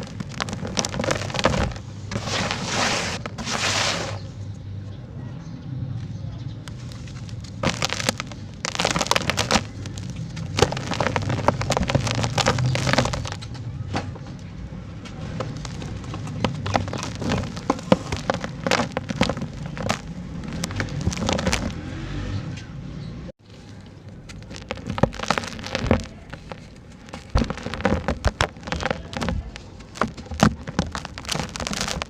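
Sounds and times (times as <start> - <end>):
sand-cement chunks crumbling: 0.0 - 4.3, 6.7 - 21.9, 23.4 - 32.0.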